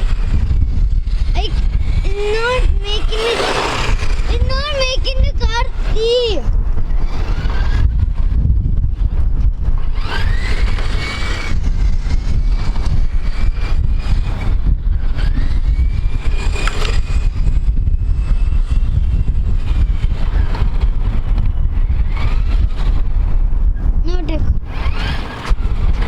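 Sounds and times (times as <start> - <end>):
electric motor whining: 0.0 - 26.0
wind on microphone: 0.0 - 26.0.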